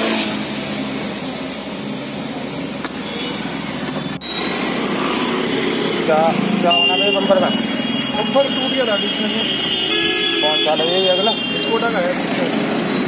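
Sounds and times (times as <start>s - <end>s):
road traffic noise: 0.0s - 13.0s
vehicle engines running: 0.0s - 13.0s.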